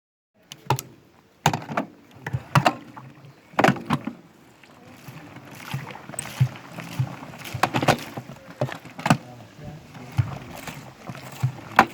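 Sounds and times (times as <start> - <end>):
washing machine drum splashing: 0.6 - 11.9.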